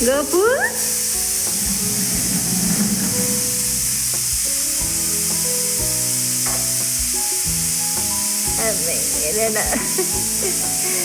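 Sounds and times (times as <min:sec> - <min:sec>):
background music of held notes: 0:00.0 - 0:11.0
sizzling hiss: 0:00.0 - 0:11.0.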